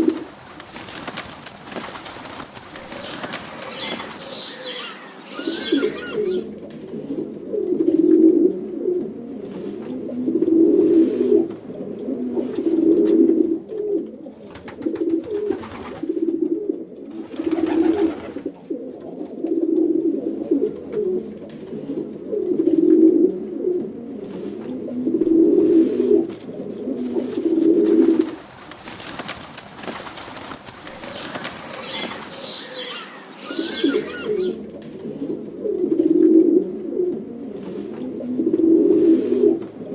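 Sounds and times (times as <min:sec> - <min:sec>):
pigeon cooing: 0:00.0 - 0:39.9.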